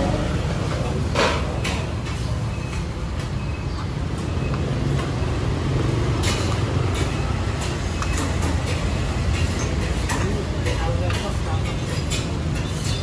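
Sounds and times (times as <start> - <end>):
low rumble of street traffic: 0.0 - 13.0.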